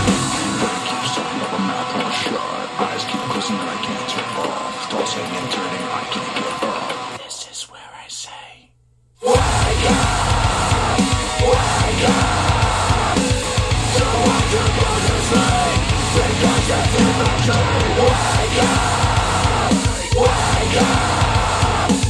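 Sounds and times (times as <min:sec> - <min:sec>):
heavy rock music over speakers: 0:00.0 - 0:07.1, 0:09.3 - 0:22.0.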